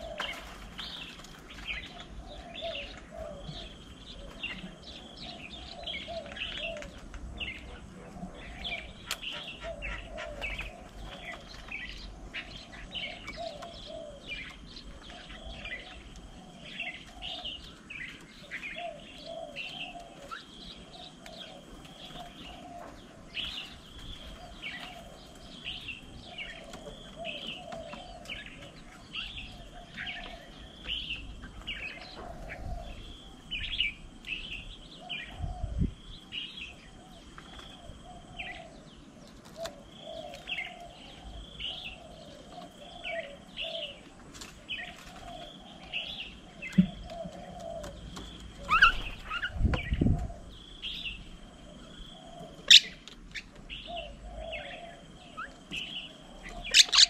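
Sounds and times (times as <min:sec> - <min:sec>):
birds chirping: 0:00.0 - 0:57.0
birds cooing: 0:00.0 - 0:57.0.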